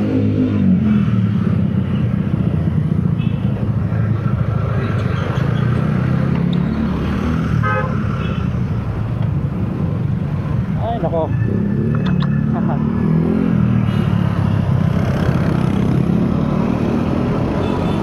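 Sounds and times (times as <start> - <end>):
traffic rumble and road noise: 0.0 - 18.0.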